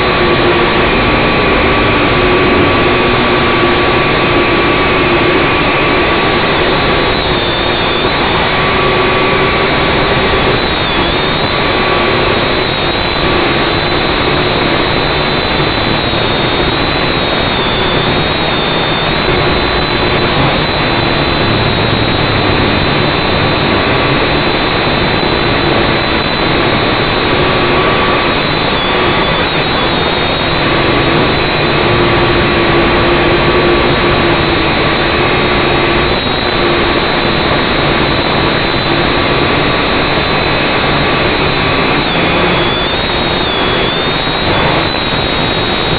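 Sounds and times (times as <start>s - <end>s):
drone motors buzzing: 0.0s - 45.9s
motor whine: 0.0s - 45.9s.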